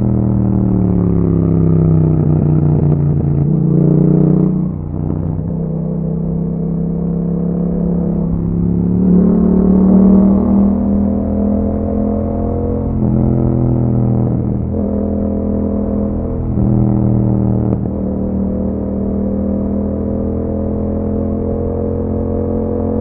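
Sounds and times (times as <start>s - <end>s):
motorcycle engine riding: 0.0s - 23.0s.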